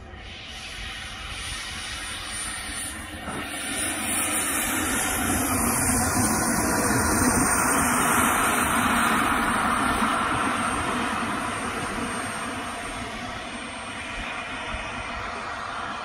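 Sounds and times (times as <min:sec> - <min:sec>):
jet engine hiss and whine: 0:00.0 - 0:16.0.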